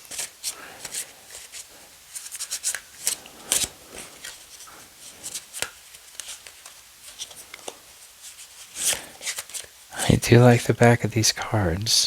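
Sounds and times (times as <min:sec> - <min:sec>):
cards being shuffled: 0:00.0 - 0:09.8.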